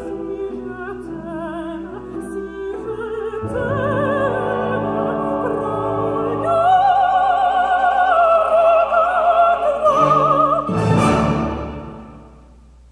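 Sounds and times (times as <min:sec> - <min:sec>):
opera singer with orchestra: 0:00.0 - 0:12.6.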